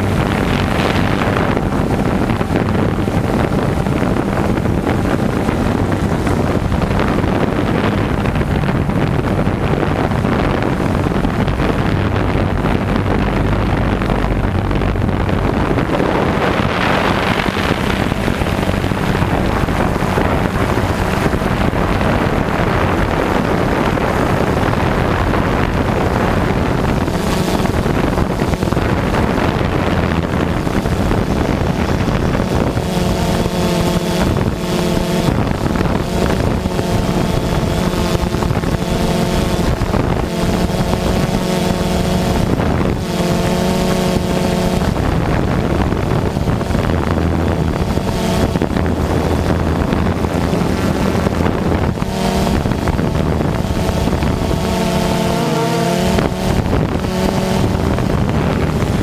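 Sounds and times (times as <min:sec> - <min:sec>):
drone motors humming: 0:00.0 - 0:59.0
wind over microphone: 0:00.0 - 0:59.0.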